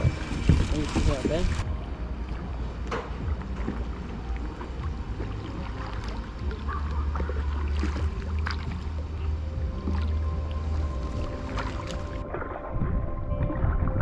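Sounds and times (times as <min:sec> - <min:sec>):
paddles splashing in water: 0:00.0 - 0:12.8
steady low rumble: 0:00.0 - 0:14.0.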